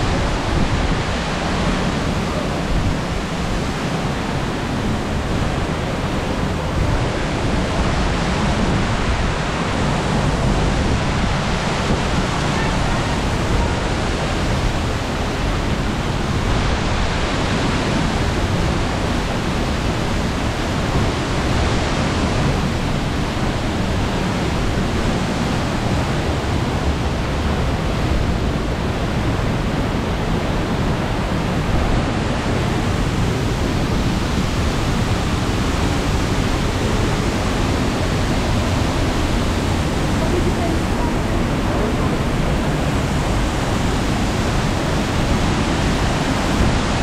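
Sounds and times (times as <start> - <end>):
stream running over rocks: 0.0 - 47.0
waterfall rushing: 0.0 - 47.0.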